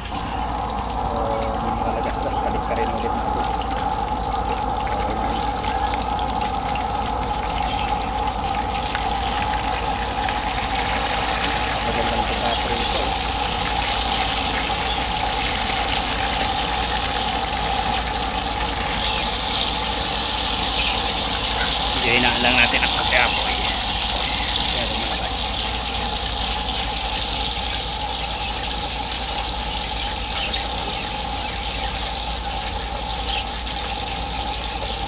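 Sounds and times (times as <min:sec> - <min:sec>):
fish sizzling in oil: 0:00.0 - 0:35.0.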